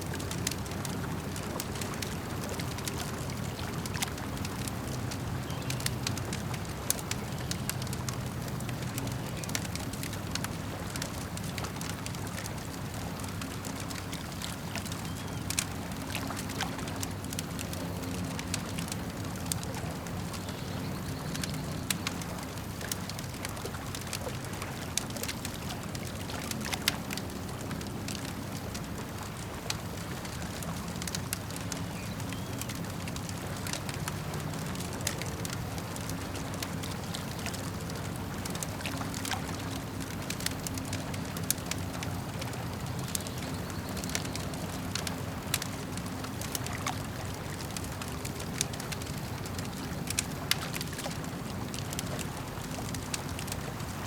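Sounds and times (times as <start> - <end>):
campfire crackling and popping: 0.0 - 54.0
lake water gurgling and lapping: 0.0 - 54.0.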